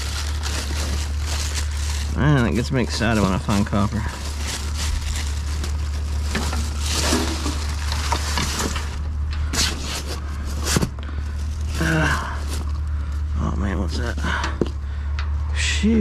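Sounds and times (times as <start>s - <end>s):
rummaging through junk: 0.0s - 15.4s
steady low hum: 0.0s - 16.0s.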